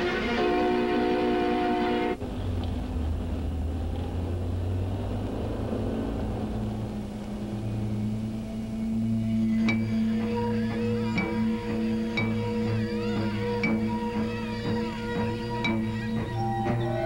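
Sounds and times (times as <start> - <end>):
held low musical note: 0.0 - 17.0
low engine-like rumble: 0.0 - 17.0.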